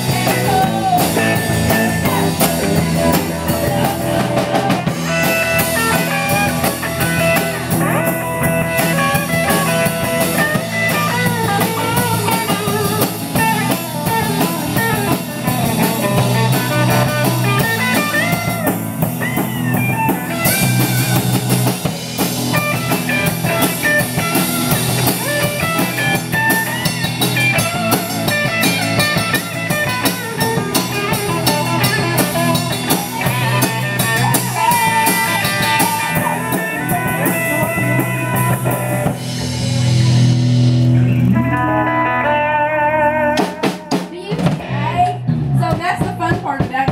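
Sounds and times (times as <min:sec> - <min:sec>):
drum kit beat: 0:00.0 - 0:41.6, 0:43.2 - 0:46.9
electric guitars: 0:00.0 - 0:46.9.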